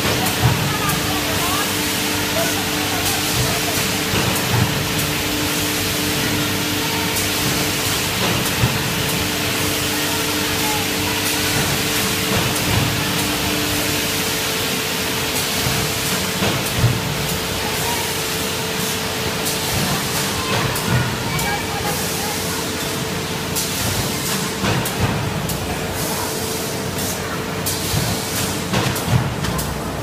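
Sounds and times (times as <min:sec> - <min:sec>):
machine mechanical hiss: 0:00.0 - 0:30.0.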